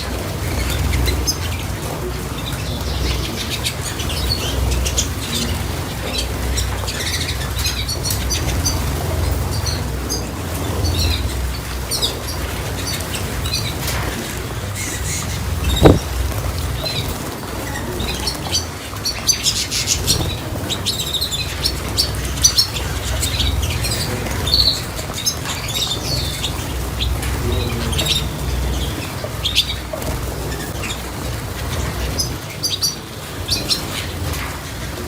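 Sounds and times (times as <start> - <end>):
small birds chirping: 0.0 - 35.0
wings fluttering: 0.0 - 35.0.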